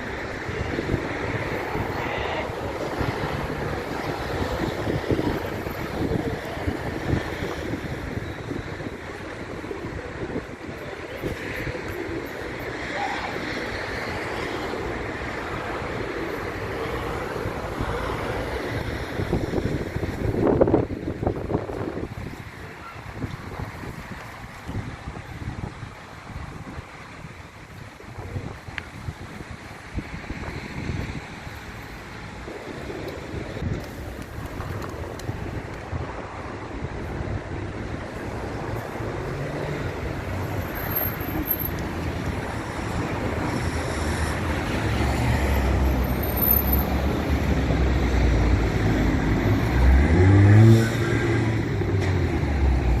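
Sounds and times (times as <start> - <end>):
wind buffeting microphone: 0.0 - 12.8, 13.7 - 53.0
road traffic rumble: 0.0 - 53.0
steady outdoor hiss: 0.0 - 53.0.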